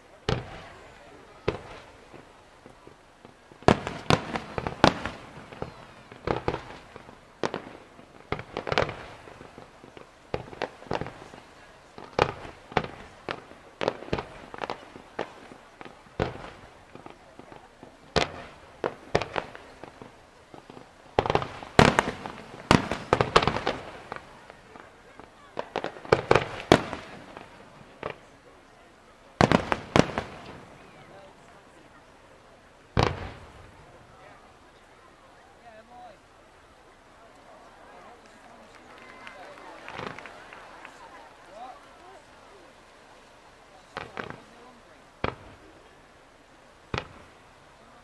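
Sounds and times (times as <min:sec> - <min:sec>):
fireworks bursting with sharp bangs: 0:00.0 - 0:48.0.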